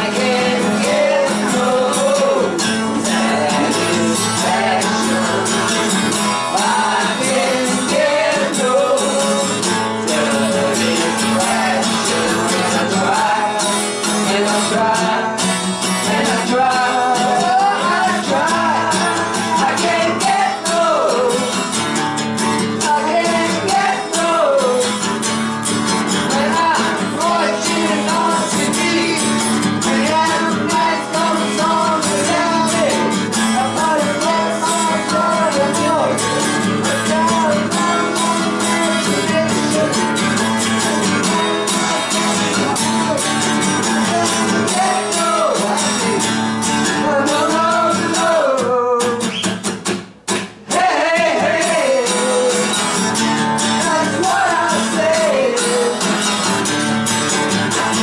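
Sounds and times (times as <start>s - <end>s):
person singing: 0.0s - 21.7s, 22.8s - 25.0s, 26.2s - 41.2s, 42.0s - 49.4s, 50.7s - 53.0s, 53.6s - 56.3s
acoustic guitar strumming: 0.0s - 58.0s.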